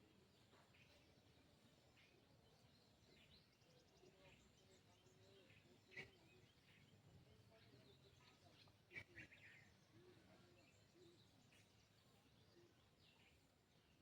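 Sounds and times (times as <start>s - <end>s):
faint songbirds chirping: 0.0s - 14.0s.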